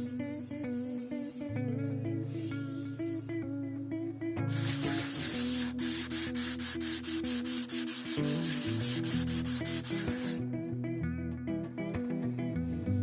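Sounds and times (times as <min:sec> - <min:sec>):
hand sanding guitar: 0:00.0 - 0:03.4, 0:04.5 - 0:10.6, 0:11.8 - 0:13.0
guitar background music: 0:00.0 - 0:13.0.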